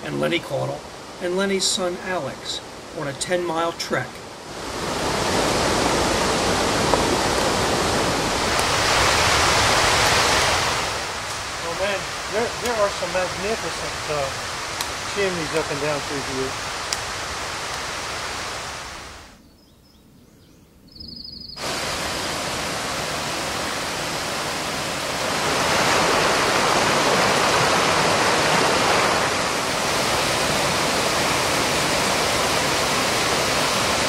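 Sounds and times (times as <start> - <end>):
stream rushing over rocks: 0.0 - 19.4, 21.6 - 34.0.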